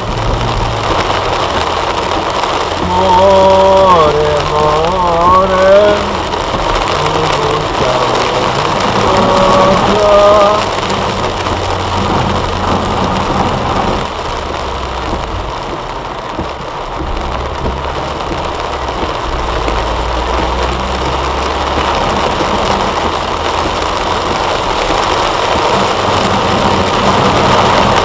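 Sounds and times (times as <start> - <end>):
car engine drone: 0.0 - 28.0
heavy rain on car roof: 0.0 - 28.0.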